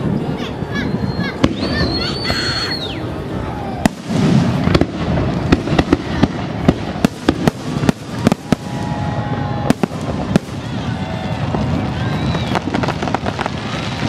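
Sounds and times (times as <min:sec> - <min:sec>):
fireworks bangs: 0:00.0 - 0:14.0
low rumble of firework bursts: 0:00.0 - 0:14.0.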